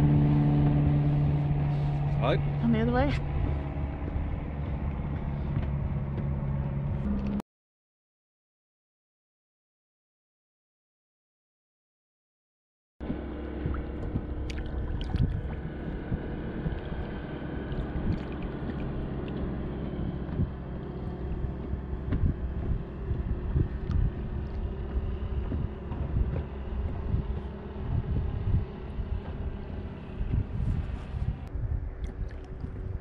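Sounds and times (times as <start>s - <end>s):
water lapping against boat: 0.0s - 7.0s, 13.0s - 33.0s
wind buffeting microphone: 0.0s - 7.1s, 13.1s - 33.0s
low rumble: 0.0s - 7.4s, 13.0s - 33.0s.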